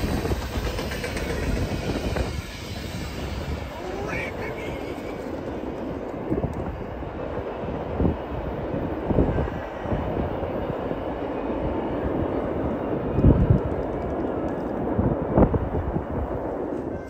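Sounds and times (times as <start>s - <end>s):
train rolling past: 0.0s - 17.0s.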